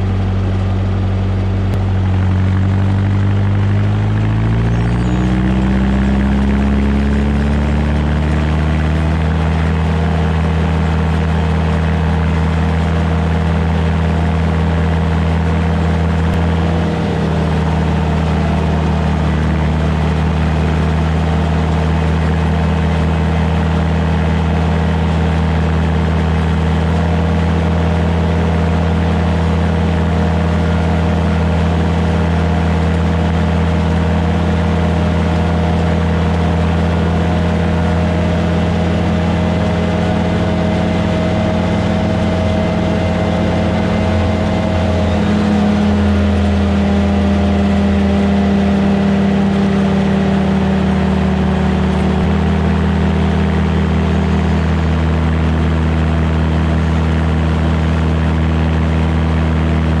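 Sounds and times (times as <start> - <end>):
mower engine running under load: 0.0 - 60.0.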